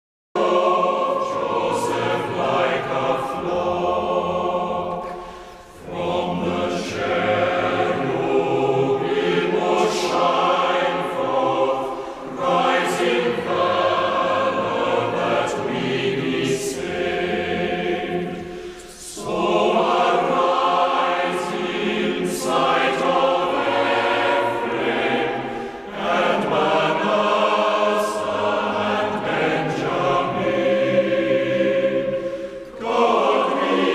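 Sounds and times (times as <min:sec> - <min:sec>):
choir singing: 0:00.4 - 0:33.9.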